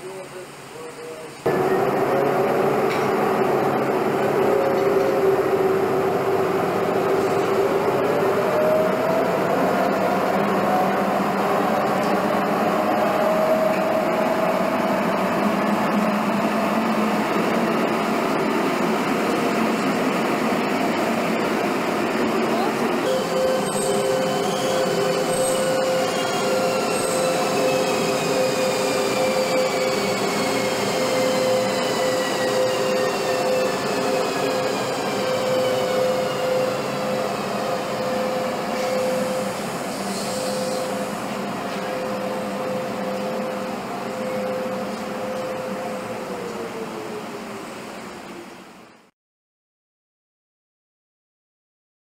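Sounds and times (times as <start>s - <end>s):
electric locomotive hum: 0.0s - 49.1s
high whine falling in pitch: 0.8s - 48.6s.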